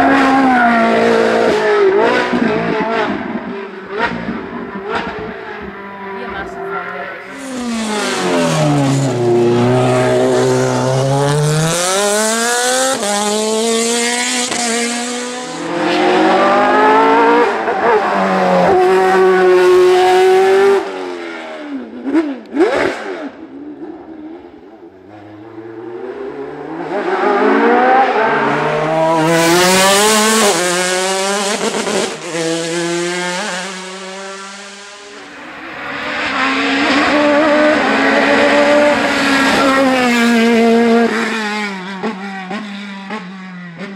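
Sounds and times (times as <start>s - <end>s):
race car passing fast: 0.0s - 23.5s, 24.2s - 43.9s
racing car engines revving: 0.0s - 43.9s.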